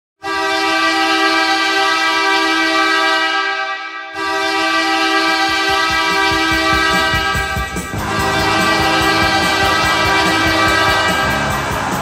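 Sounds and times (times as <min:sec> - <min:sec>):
arena goal horn blasts: 0:00.2 - 0:12.0.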